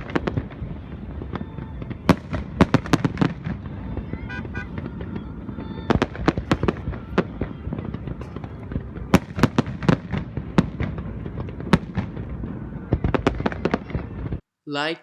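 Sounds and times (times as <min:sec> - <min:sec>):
fireworks bangs and pops: 0:00.0 - 0:14.4.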